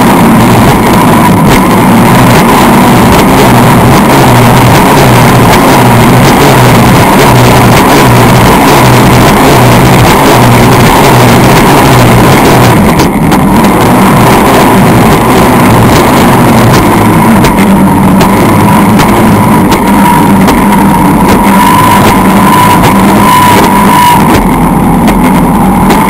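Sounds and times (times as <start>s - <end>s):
boat engine running hard: 0.0s - 26.0s.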